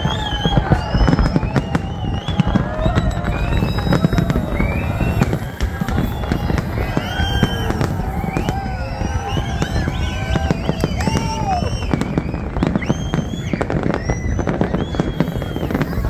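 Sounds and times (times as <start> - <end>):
fireworks bangs and crackling: 0.0 - 16.0
whistling fireworks: 0.0 - 16.0.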